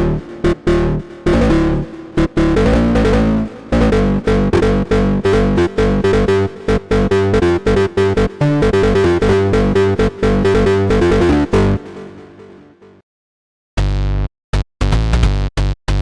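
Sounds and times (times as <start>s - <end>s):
synthesizer bass line: 0.0s - 13.0s.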